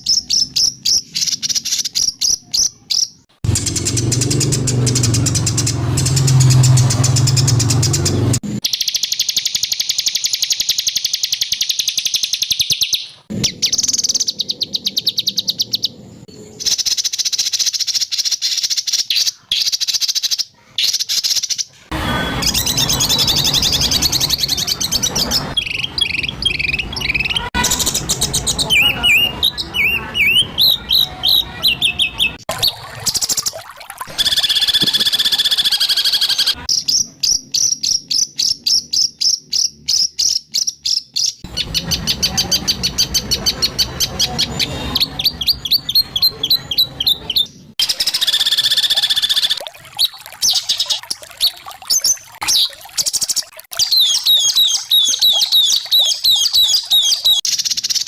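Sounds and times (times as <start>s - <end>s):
bird chirping notes: 0.0s - 58.0s
high rattling bird trill: 2.9s - 16.0s, 16.6s - 49.6s, 50.5s - 58.0s.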